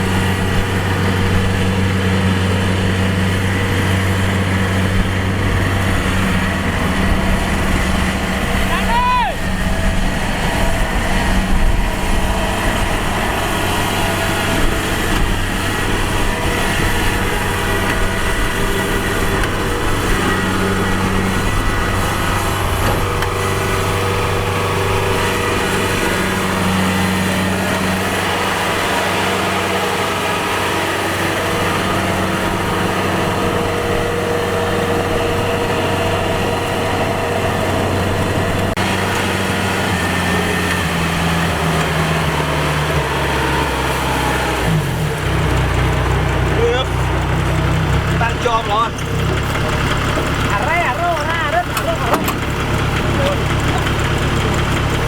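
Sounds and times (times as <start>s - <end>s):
combine harvester diesel engine running: 0.0s - 55.0s.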